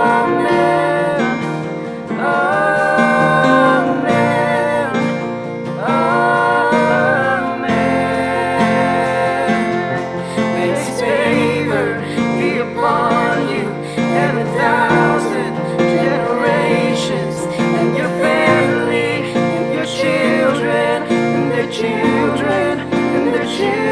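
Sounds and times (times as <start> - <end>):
acoustic guitar: 0.0 - 23.9
keyboard playing chords: 0.0 - 23.9.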